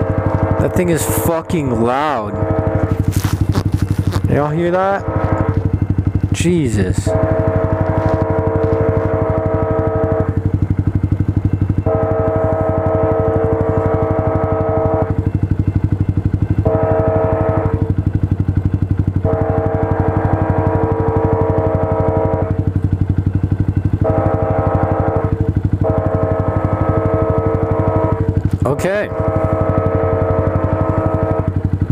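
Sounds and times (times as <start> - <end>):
train air horn blasts: 0.0 - 5.7, 6.7 - 10.6, 11.8 - 15.3, 16.6 - 18.0, 19.2 - 22.7, 24.0 - 31.6
low engine rumble: 0.0 - 31.9.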